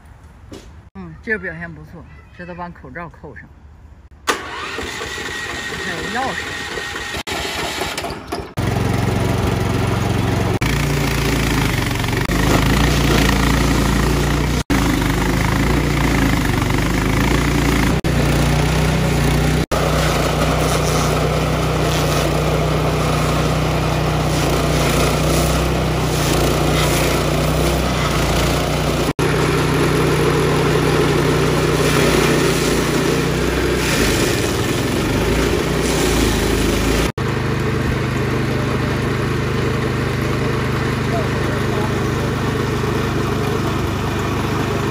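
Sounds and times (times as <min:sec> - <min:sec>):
cutter wheel grinding stump: 0:04.3 - 0:44.9
stump grinder engine running: 0:04.3 - 0:44.9.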